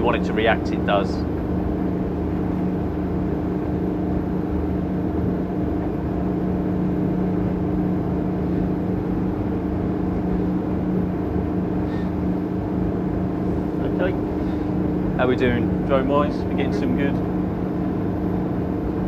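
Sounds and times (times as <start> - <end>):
boat diesel engines droning: 0.0 - 19.0.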